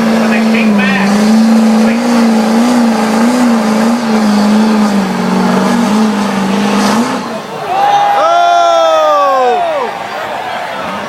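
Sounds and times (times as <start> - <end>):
truck engines at high revs: 0.0 - 11.0.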